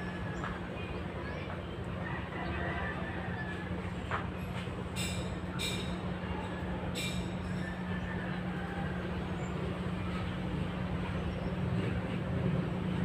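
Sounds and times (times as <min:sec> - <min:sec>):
outdoor rumble: 0:00.0 - 0:13.0.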